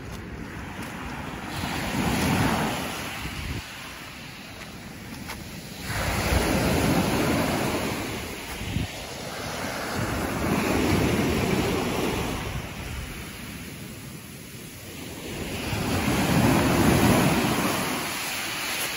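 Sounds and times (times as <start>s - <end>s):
waves breaking on pebble beach: 0.0s - 18.9s.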